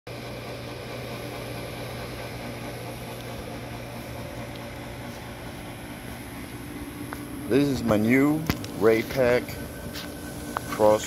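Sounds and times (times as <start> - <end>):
fan air rushing: 0.1 - 11.0
heat pump humming: 0.1 - 11.0.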